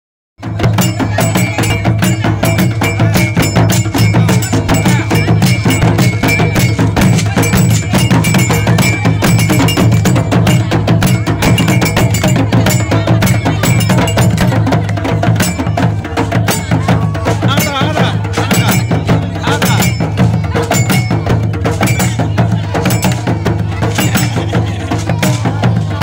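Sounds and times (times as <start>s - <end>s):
fast drum strokes: 0.4s - 26.0s
metallic ringing percussion: 0.4s - 26.0s.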